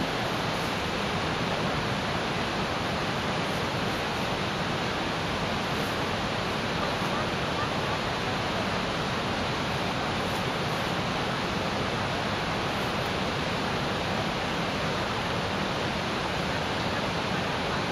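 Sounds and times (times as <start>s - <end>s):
steady rushing noise: 0.0s - 17.9s.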